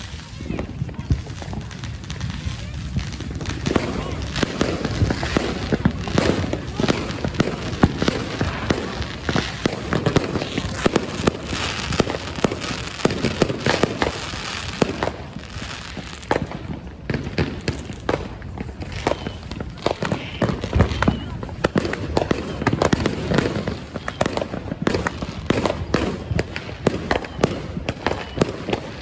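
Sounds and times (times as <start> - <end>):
fireworks cracking and popping: 0.0 - 29.0.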